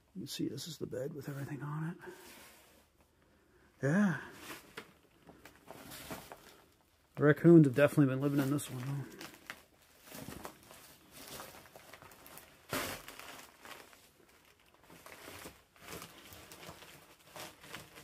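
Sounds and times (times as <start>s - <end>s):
faint rustling and crinkling: 0.4s - 18.0s.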